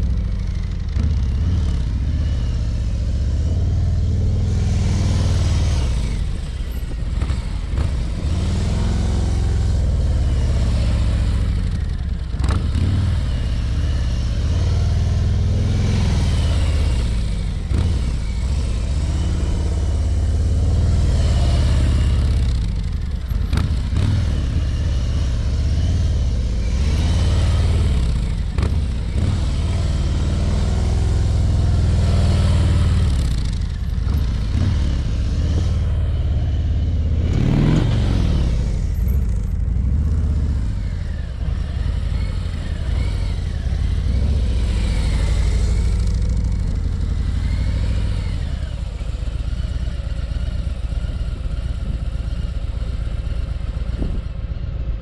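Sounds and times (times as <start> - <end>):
motorcycle engine passing by: 0.0 - 54.3.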